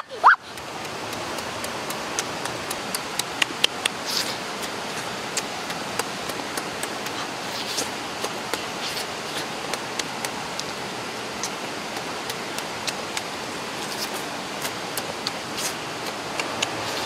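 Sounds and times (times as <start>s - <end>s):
falling water rushing: 0.0s - 17.0s
person chewing and lip-smacking: 0.1s - 10.8s, 11.4s - 17.0s.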